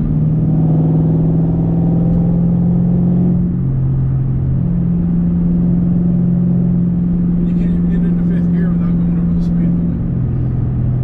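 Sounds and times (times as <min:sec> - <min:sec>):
car engine and exhaust while driving: 0:00.0 - 0:11.0.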